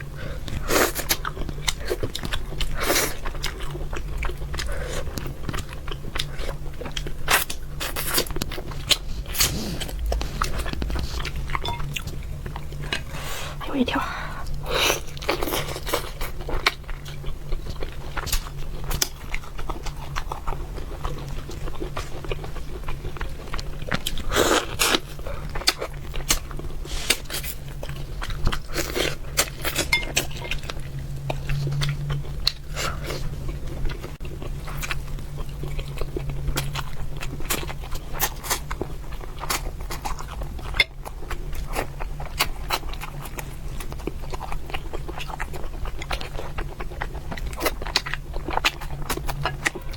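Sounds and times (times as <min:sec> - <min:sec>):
steady low hum: 0:00.0 - 0:49.9
wet chewing and biting clicks: 0:00.5 - 0:13.1, 0:15.0 - 0:49.9.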